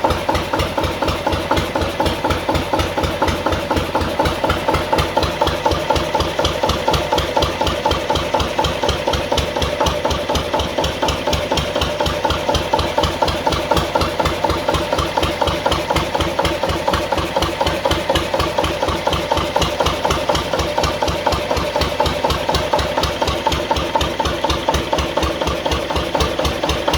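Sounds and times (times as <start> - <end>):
diesel generator engine running: 0.0 - 26.9.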